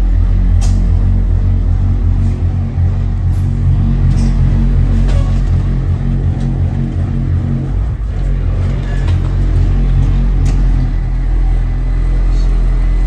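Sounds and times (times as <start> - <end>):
bus engine rumbling: 0.0 - 13.0.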